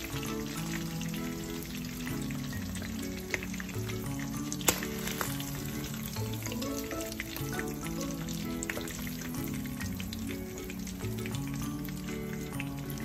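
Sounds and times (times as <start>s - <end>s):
fish sizzling in hot oil: 0.0s - 13.0s
soft background music: 0.0s - 13.0s.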